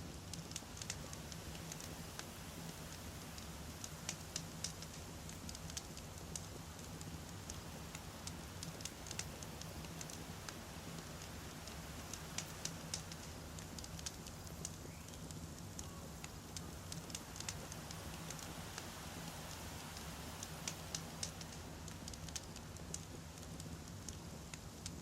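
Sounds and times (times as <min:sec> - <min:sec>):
low rumble of flames: 0:00.0 - 0:25.0
firewood popping: 0:00.3 - 0:25.0.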